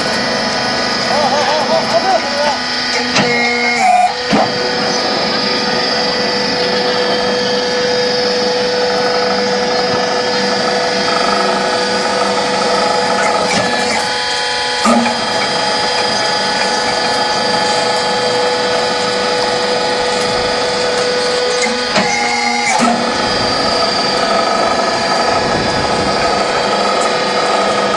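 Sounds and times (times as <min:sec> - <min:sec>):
machine hum with whining tones: 0:00.0 - 0:27.9.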